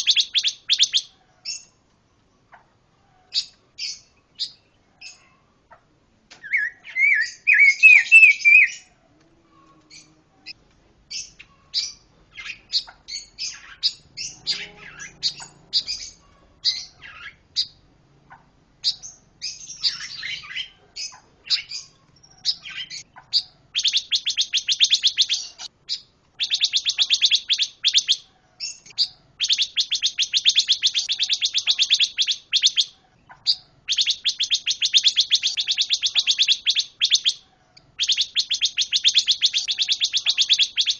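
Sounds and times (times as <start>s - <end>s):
songbird singing with trills: 0.0s - 1.8s, 3.2s - 5.8s, 6.4s - 8.9s, 9.9s - 17.8s, 18.8s - 40.9s.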